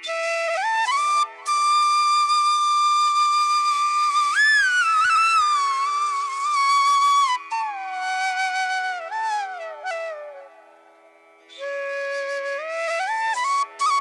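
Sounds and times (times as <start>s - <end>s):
bamboo flute playing: 0.0s - 10.8s, 11.5s - 14.0s.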